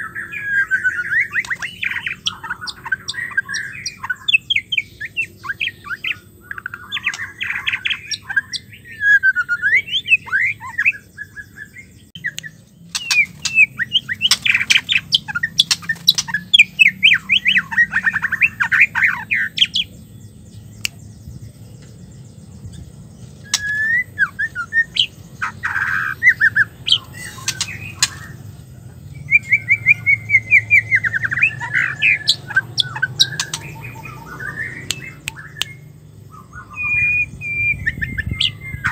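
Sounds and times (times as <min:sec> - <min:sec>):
bird chattering calls: 0:00.0 - 0:20.0, 0:23.4 - 0:38.9.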